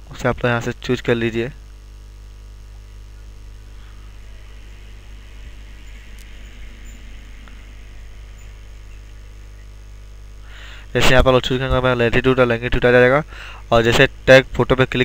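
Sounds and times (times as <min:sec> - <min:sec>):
electrical mains hum: 0:00.0 - 0:15.0
faint hiss: 0:00.0 - 0:15.0.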